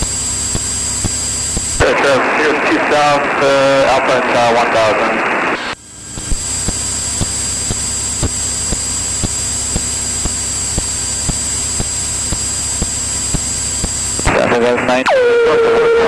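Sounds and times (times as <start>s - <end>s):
airplane engine drone: 0.0s - 16.0s
high steady whine: 0.0s - 16.0s
radio transmission: 0.0s - 16.0s.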